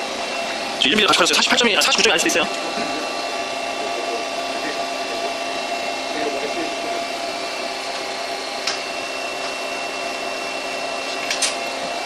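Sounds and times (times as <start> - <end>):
machine hum with held tones: 0.0 - 12.0.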